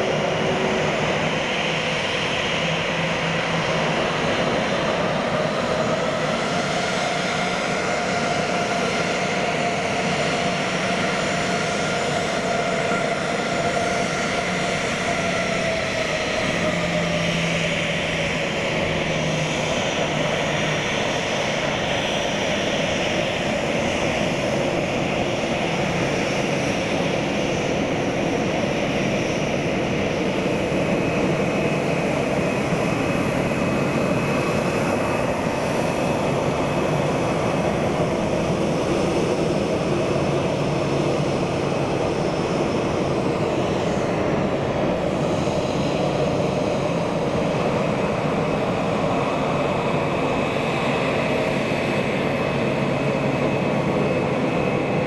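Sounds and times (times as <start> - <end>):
jet engines taxiing: 0.0 - 55.0.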